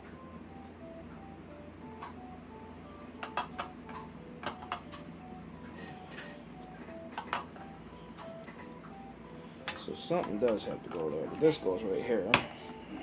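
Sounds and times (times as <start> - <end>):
faint background melody: 0.0 - 13.0.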